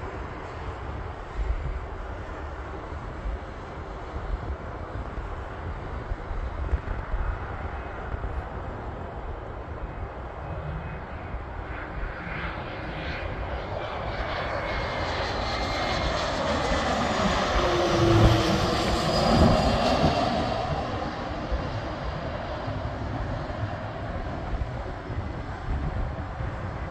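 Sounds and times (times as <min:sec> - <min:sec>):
faint jet whine: 0:00.0 - 0:26.9
jet engines passing overhead: 0:00.0 - 0:26.9.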